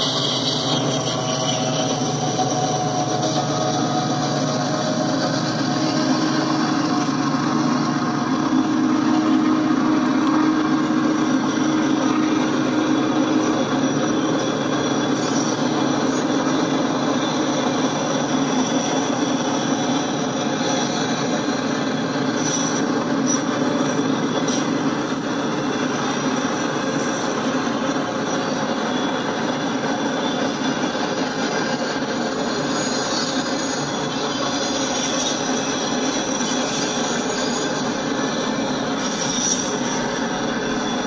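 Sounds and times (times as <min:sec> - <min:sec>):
train wheels on track: 0:00.0 - 0:41.0.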